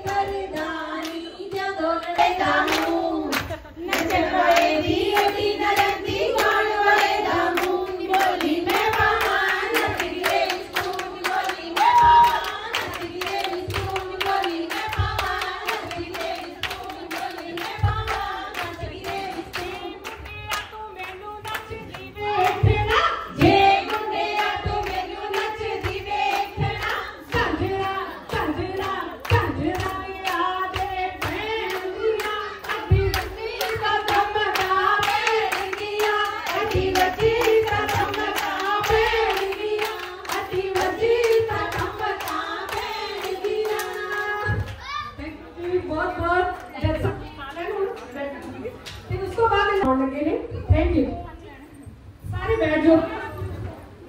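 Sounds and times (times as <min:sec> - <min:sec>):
voices singing: 0:00.0 - 0:45.8
rhythmic handclapping: 0:00.0 - 0:49.9.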